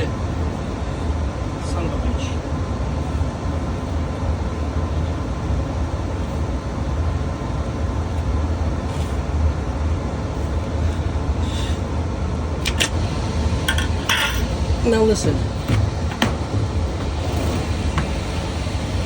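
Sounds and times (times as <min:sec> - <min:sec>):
furnace blower fan rumbling: 0:00.0 - 0:19.0.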